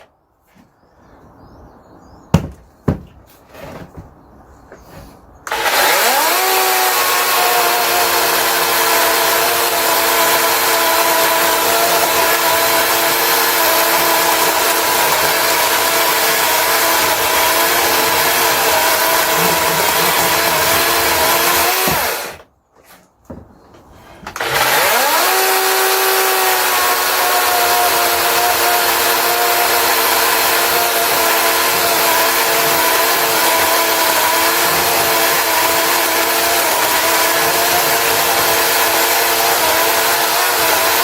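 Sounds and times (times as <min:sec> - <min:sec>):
electric chainsaw motor: 0:05.5 - 0:22.4, 0:24.3 - 0:41.0.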